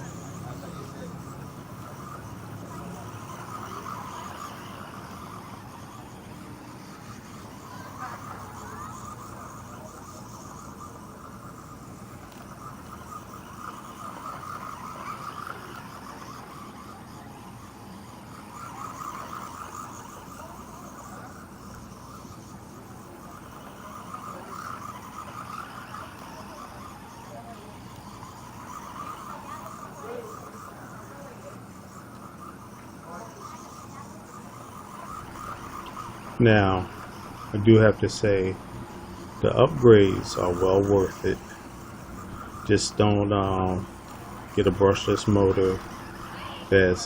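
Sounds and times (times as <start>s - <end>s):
toy car motor whining: 0.0s - 47.0s.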